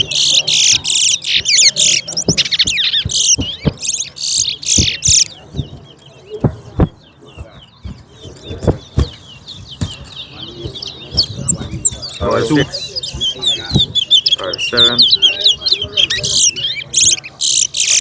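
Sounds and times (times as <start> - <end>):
finch singing whistled phrases: 0.0 - 18.0
short knocks: 0.0 - 18.0.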